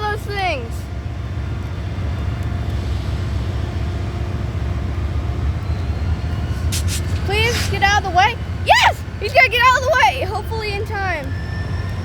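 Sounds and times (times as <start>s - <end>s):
diesel locomotive engines rumbling: 0.0s - 12.0s.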